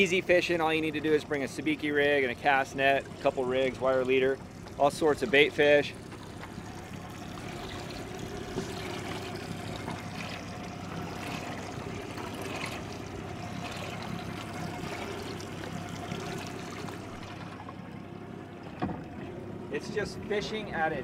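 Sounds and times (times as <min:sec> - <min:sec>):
faint steady hum: 0:00.0 - 0:21.0
water trickling and splashing: 0:00.0 - 0:21.0.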